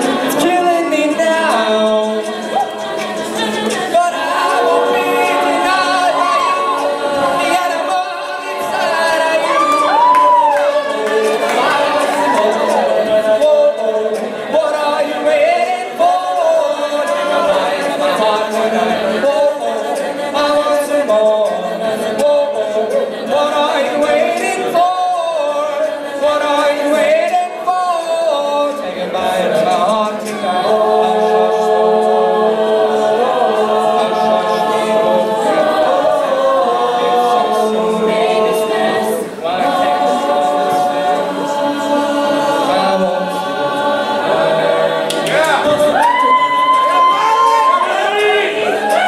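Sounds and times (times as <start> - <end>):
a cappella group singing in harmony: 0.0 - 49.0.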